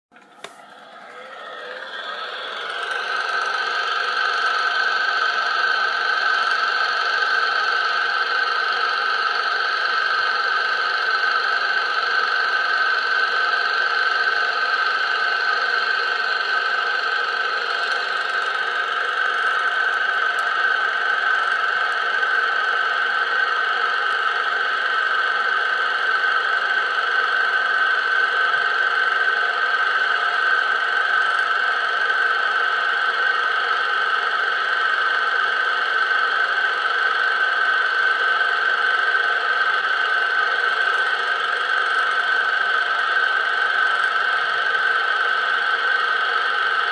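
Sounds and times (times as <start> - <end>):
steady mechanical drone: 0.1 - 46.9.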